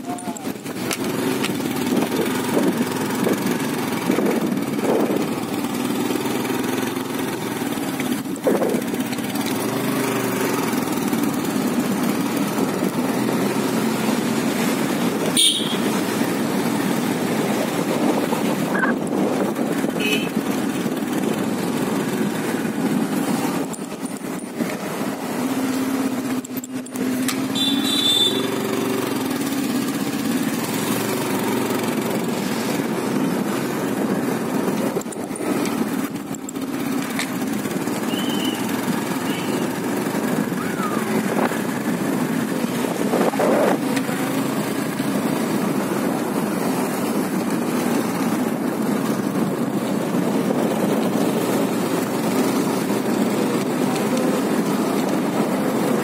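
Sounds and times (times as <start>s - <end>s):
road rumble: 0.0s - 56.0s
small vehicle engine running: 0.0s - 56.0s.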